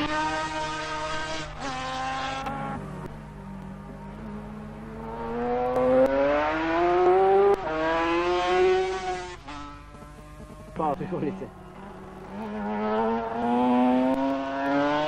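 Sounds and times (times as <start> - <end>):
racing engine pulling hard: 0.0 - 15.0.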